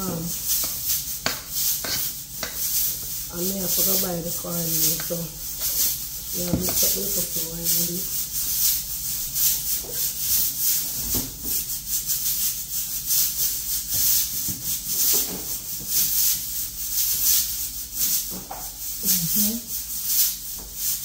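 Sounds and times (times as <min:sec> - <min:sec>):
hands scraping dough in a bowl: 0:00.0 - 0:21.0.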